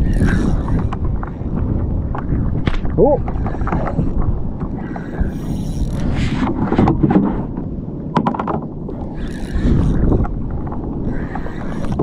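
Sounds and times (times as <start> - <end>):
water sloshing against kayak: 0.0 - 12.0
wind buffeting microphone: 0.0 - 12.0.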